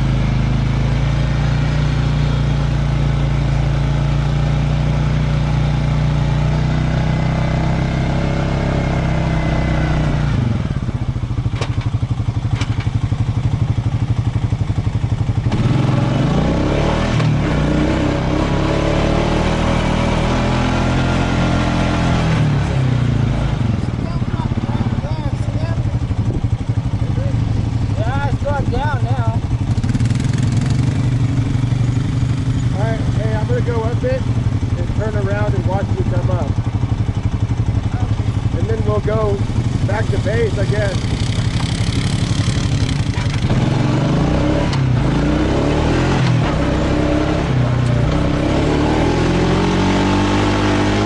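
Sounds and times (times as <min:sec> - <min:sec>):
atv engine running: 0:00.0 - 0:51.0.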